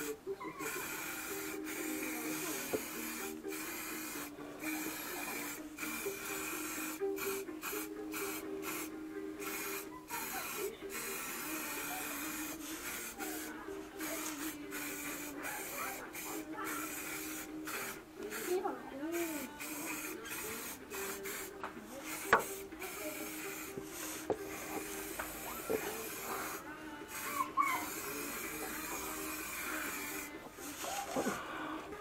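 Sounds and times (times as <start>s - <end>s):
aerosol spray can hissing: 0.0s - 31.4s.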